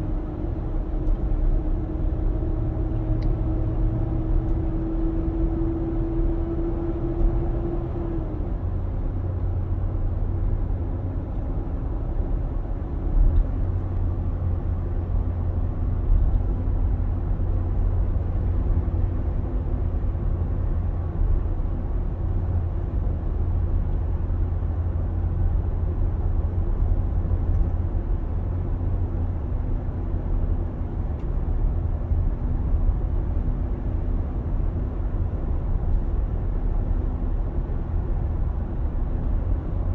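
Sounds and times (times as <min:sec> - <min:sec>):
engine deep rumble: 0:00.0 - 0:39.9
hum over engine: 0:00.0 - 0:39.9.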